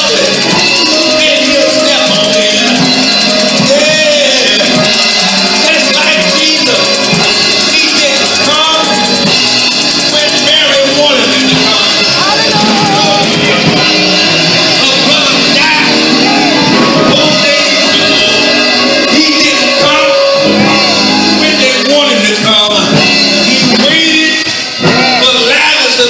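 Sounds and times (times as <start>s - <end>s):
gospel keyboard and drums: 0.0s - 26.0s
people singing: 0.0s - 26.0s.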